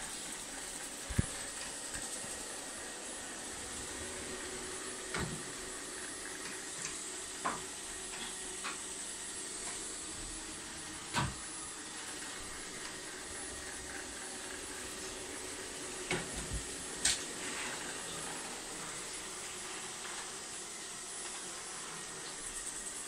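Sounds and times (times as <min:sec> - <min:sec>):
robot vacuum running: 0:00.0 - 0:23.0.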